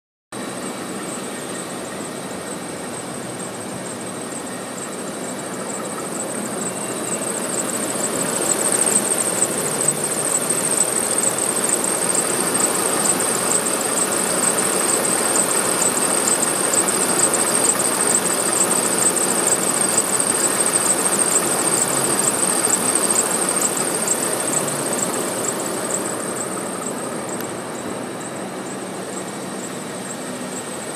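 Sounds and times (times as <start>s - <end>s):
engine high-pitched squeal: 0.4s - 30.9s
rapid fluttering chatter: 0.4s - 30.9s
running machinery hum: 0.4s - 30.9s.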